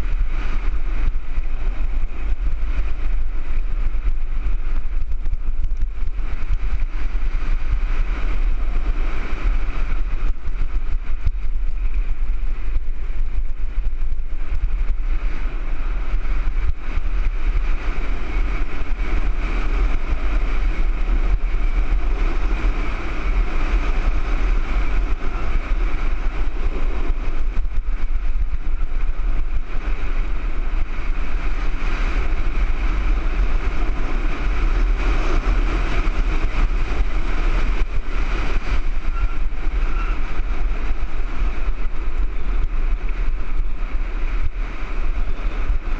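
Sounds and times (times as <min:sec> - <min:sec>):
bike tyres rolling on dirt: 0:00.0 - 0:45.9
wind rushing over microphone: 0:00.0 - 0:45.9.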